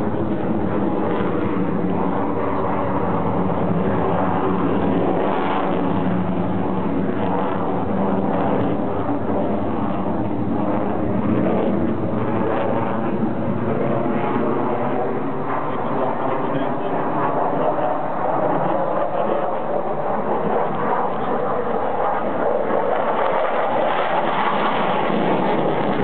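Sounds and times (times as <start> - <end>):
fighter jet flying: 0.0 - 26.0.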